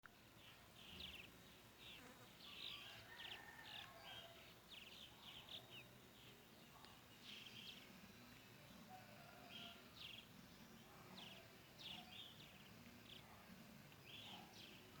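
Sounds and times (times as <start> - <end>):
birds chirping and trilling: 0.3 - 15.0.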